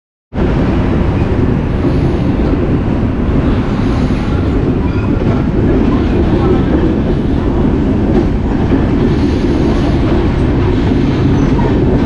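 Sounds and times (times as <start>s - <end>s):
rushing air: 0.3s - 12.0s
train wheels rumbling on rail: 0.3s - 12.0s.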